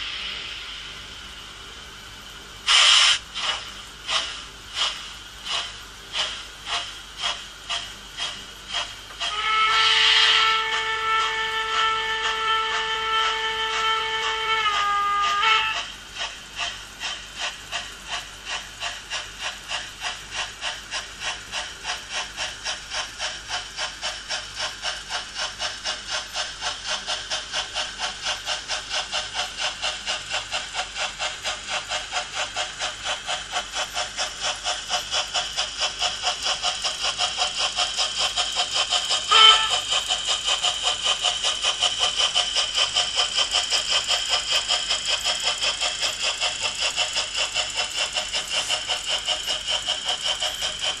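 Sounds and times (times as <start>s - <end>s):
model steam locomotive chuffing: 0.0s - 51.0s.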